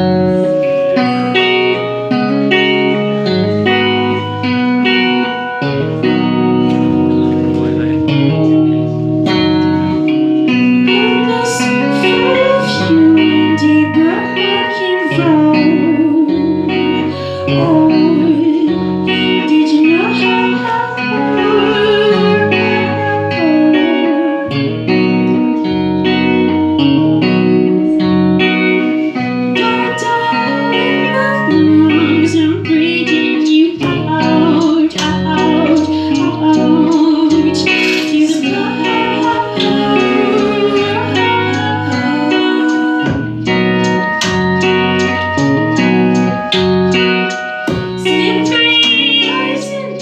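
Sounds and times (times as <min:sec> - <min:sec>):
guitar music: 0:00.0 - 0:50.0.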